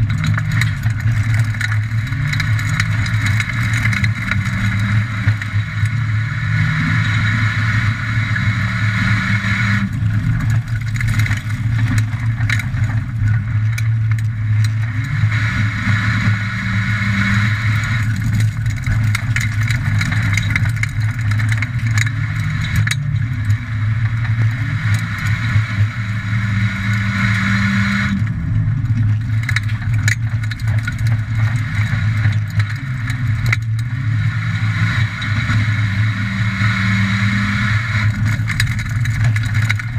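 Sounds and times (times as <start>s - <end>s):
car rattling and knocking: 0.0s - 34.2s, 34.8s - 39.9s
race car engine rising and falling: 0.0s - 39.9s.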